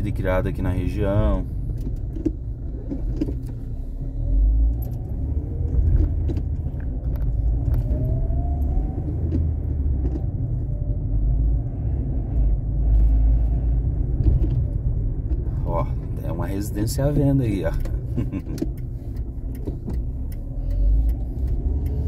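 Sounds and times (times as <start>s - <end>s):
engine and road rumble: 0.0s - 22.0s.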